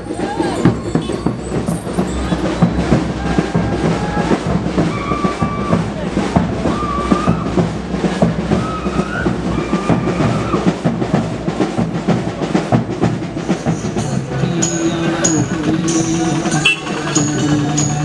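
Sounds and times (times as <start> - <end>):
fast dense drumming: 0.0 - 18.0.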